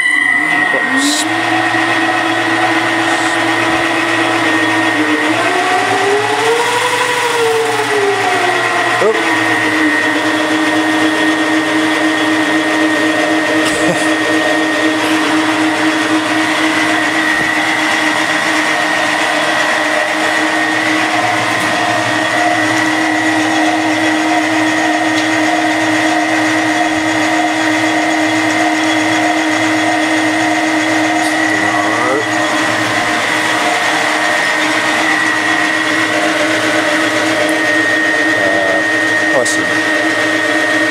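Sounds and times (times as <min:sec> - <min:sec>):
lathe droning with high whine: 0:00.0 - 0:40.9.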